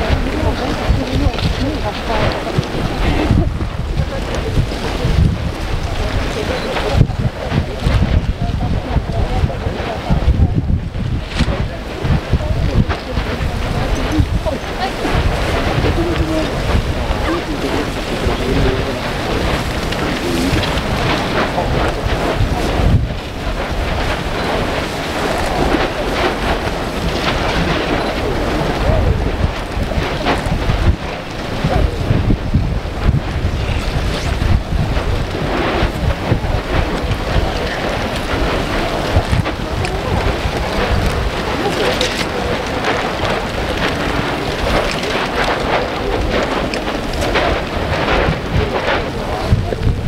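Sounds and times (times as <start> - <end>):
lava crust crackling: 0.0 - 50.0
wind rumble on microphone: 0.0 - 50.0.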